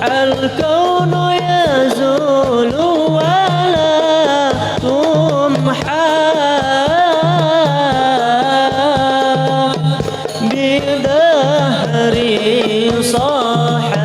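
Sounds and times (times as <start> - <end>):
hand drum rhythm: 0.0 - 14.0.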